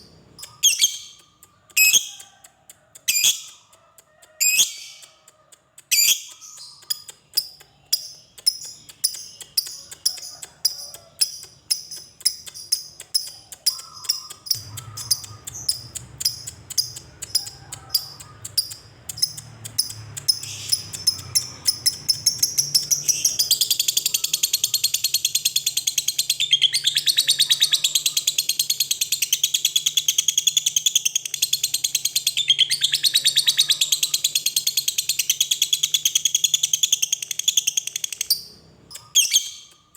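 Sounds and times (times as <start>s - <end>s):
lovebird chirping and trilling: 0.0s - 2.3s, 3.1s - 3.7s, 4.4s - 5.2s, 5.9s - 39.9s.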